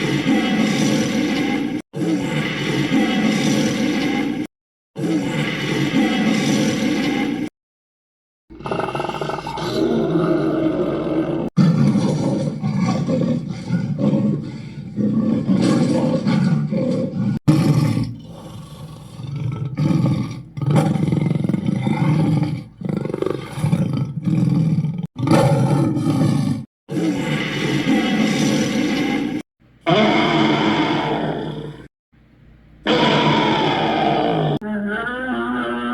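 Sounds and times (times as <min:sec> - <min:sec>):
dragon roars and growls: 0:00.0 - 0:07.5, 0:08.5 - 0:31.9, 0:32.8 - 0:34.6.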